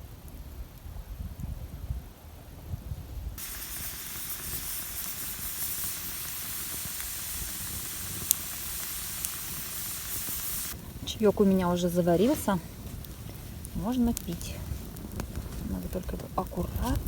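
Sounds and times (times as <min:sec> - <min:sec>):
campfire hissing: 0:00.0 - 0:17.0
fire crackles: 0:00.0 - 0:17.0
low rumbling: 0:03.3 - 0:17.0.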